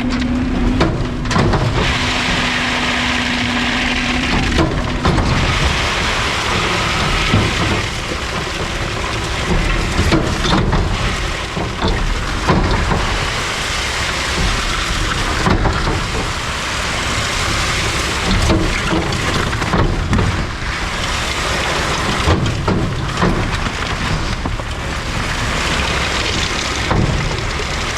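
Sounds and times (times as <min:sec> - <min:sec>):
trash crackling into a hopper: 0:00.0 - 0:27.9
truck engine running: 0:00.0 - 0:27.9.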